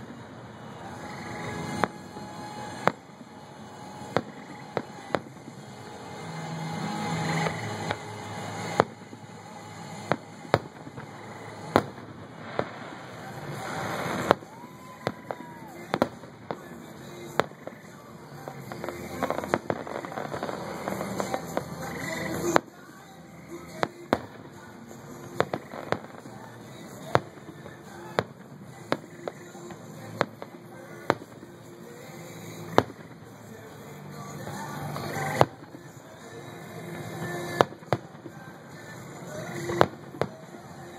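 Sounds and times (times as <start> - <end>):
firework shells bursting: 0.0 - 40.9.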